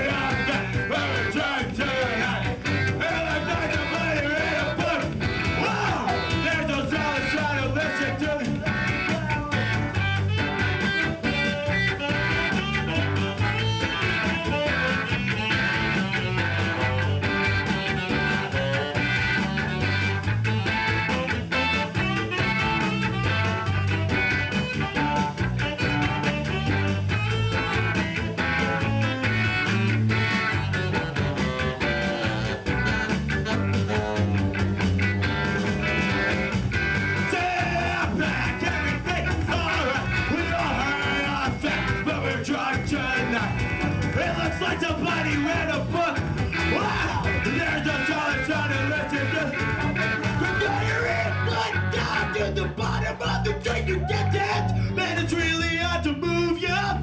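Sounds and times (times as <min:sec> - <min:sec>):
saxophone: 0:00.0 - 0:56.9
bass: 0:00.0 - 0:57.0
drums: 0:00.0 - 0:57.0
electric guitar: 0:00.0 - 0:57.0.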